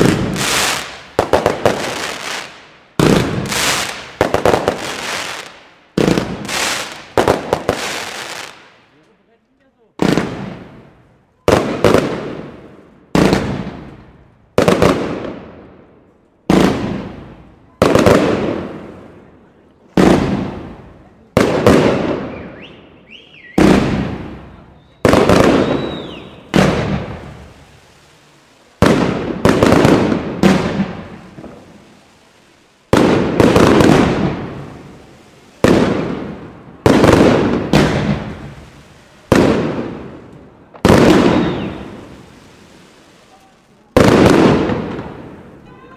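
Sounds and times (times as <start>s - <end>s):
firework bangs: 0.0s - 9.0s, 10.0s - 45.9s.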